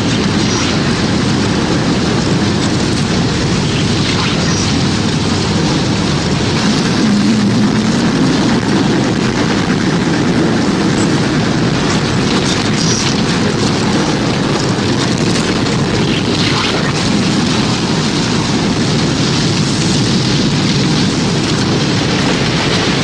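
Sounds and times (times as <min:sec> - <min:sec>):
tornado wind rumble: 0:00.0 - 0:23.0.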